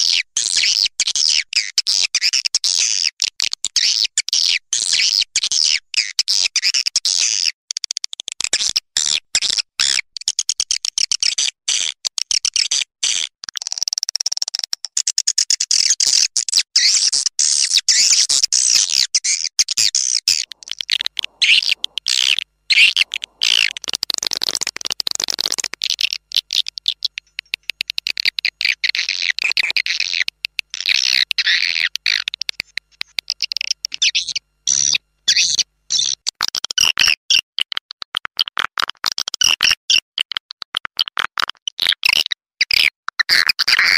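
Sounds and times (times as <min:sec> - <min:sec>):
rapid high-pitched bird chirping: 0:00.0 - 0:36.2.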